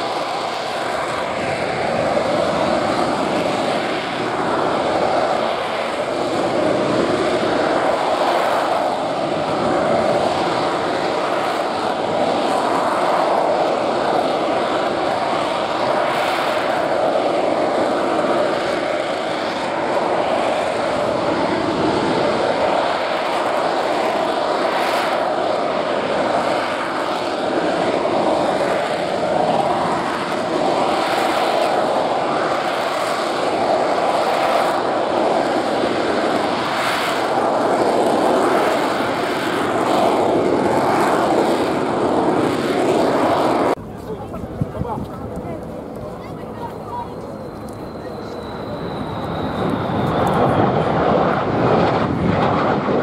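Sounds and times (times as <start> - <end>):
jet aircraft flying past: 0.0 - 53.0.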